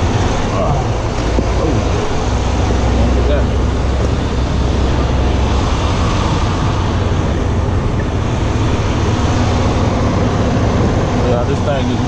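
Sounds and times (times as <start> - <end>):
semi truck engine running: 0.0 - 12.0.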